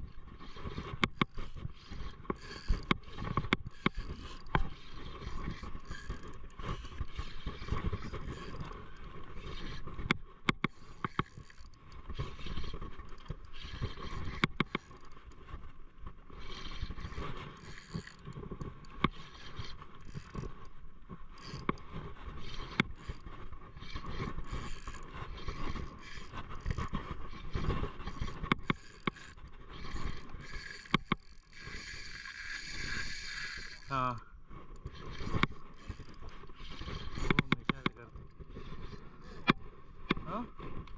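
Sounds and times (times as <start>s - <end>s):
fishing reel clicking: 0.3s - 15.5s, 16.3s - 20.7s, 21.3s - 40.9s.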